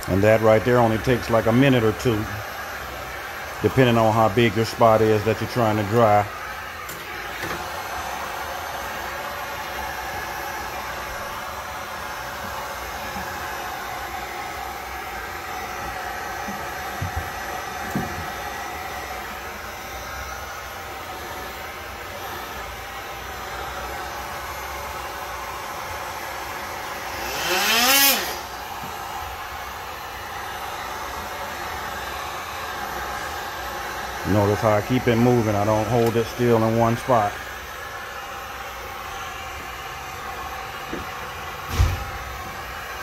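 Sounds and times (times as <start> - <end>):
heat gun blowing hiss: 0.0 - 43.0.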